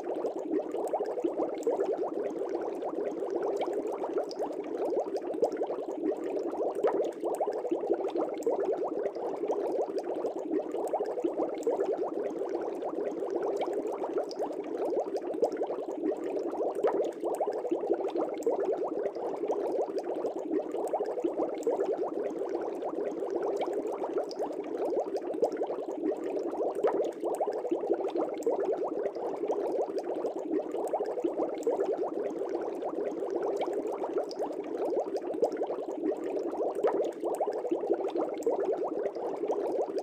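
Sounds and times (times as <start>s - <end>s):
aquarium bubbles bubbling: 0.0s - 40.0s.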